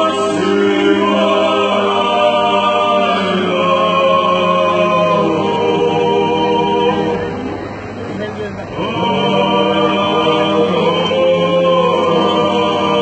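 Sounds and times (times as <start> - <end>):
male vocal ensemble singing in harmony: 0.0 - 7.5, 8.6 - 13.0.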